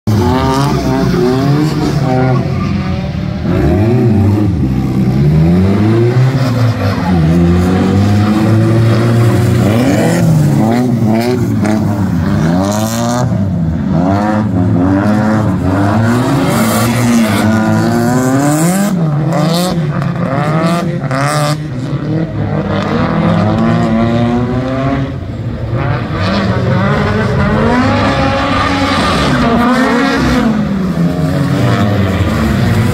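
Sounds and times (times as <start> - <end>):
car engines revving: 0.0 - 32.9
tyres on wet track: 0.1 - 32.9.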